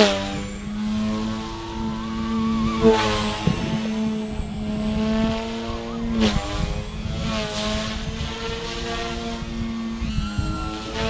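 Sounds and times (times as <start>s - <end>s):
helicopter motor whine: 0.0s - 11.0s
rotor blades whooshing: 0.0s - 11.0s.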